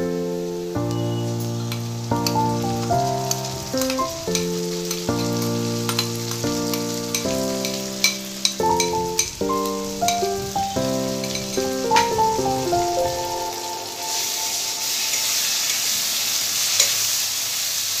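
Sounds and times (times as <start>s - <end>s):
soft keyboard music: 0.0s - 15.7s
prawns sizzling in hot oil: 0.1s - 18.0s.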